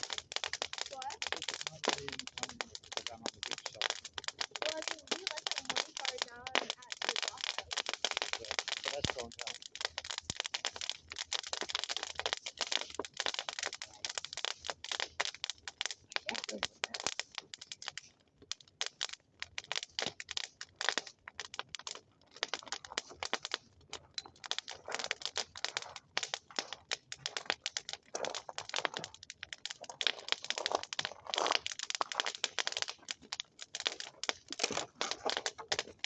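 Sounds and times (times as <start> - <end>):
bonfire crackling and popping: 0.0 - 36.0.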